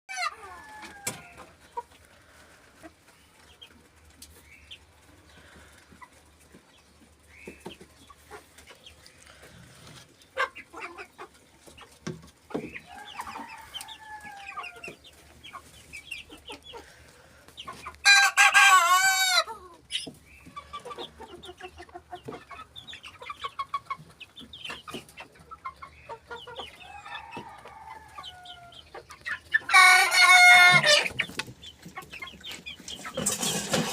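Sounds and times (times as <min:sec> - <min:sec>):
chicken clucking: 0:00.1 - 0:33.9.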